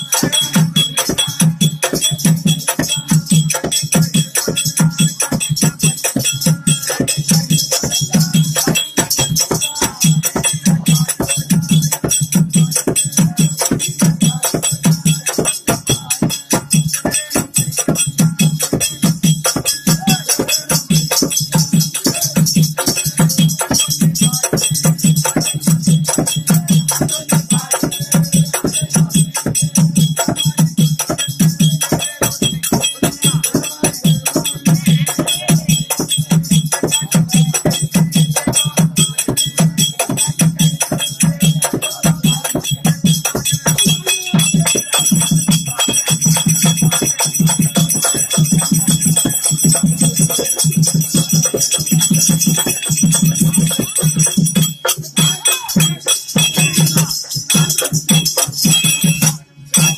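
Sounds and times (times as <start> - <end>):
low drum beat: 0.0 - 59.9
rattling jingling percussion: 0.0 - 59.9.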